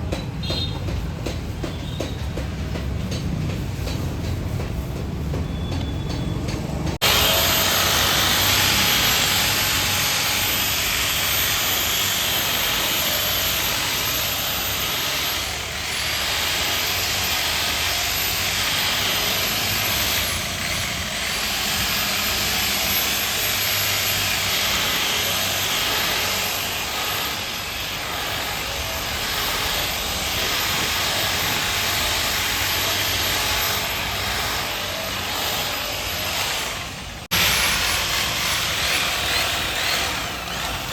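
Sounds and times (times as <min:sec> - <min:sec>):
polishing machine whining: 0:07.0 - 0:40.9.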